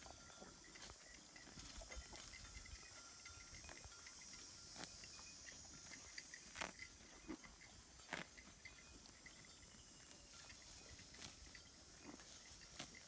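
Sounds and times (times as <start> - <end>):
cow chewing grass crunches: 0.0 - 13.0.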